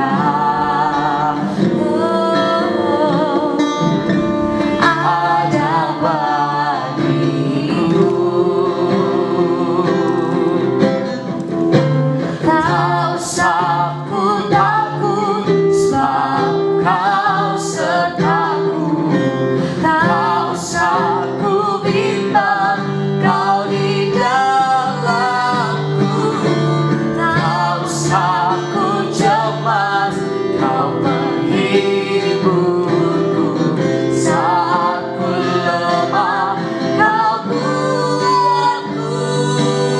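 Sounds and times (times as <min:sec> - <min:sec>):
voices singing: 0:00.0 - 0:11.5, 0:12.2 - 0:39.9
instrumental accompaniment: 0:00.0 - 0:39.9.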